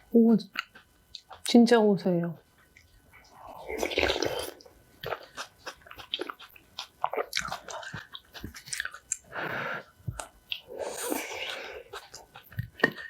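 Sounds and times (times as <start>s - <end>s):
person chewing crunchy food: 0.0s - 1.5s, 2.6s - 13.0s.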